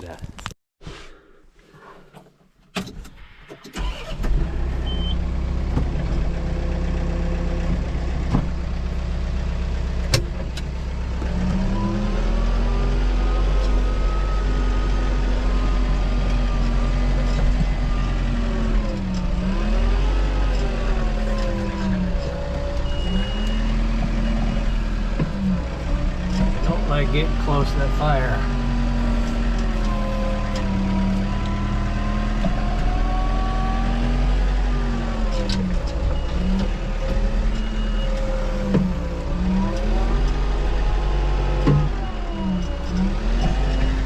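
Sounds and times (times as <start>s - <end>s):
tractor engine running: 3.6s - 44.0s.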